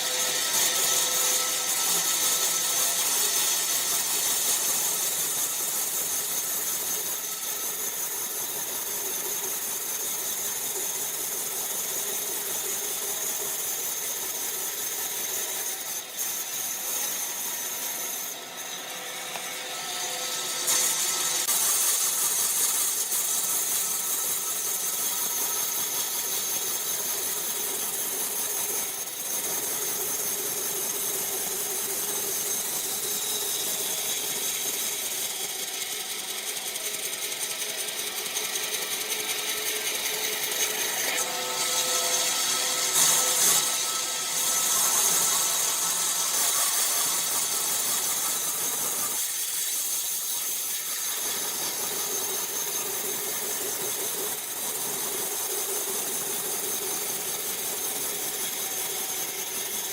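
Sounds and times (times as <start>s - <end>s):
woodworking power tool running: 0.0s - 59.9s.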